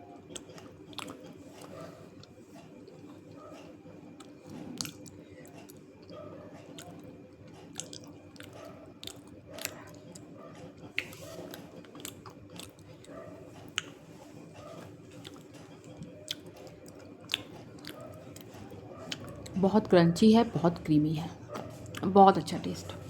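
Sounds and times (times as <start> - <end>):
chewing and crunching clay: 0.0 - 23.0.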